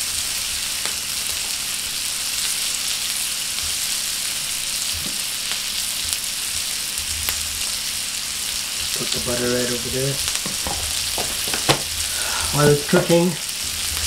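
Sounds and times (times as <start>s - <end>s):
food sizzling on a griddle: 0.0s - 14.0s.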